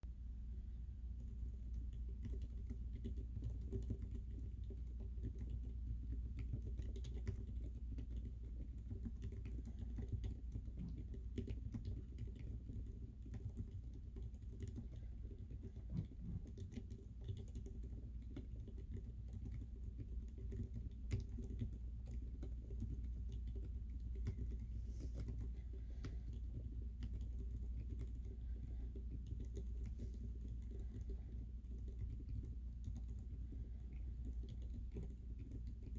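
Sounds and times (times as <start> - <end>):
faint low hum: 0.0 - 35.9
mechanical keyboard typing: 1.9 - 24.6, 29.0 - 35.9.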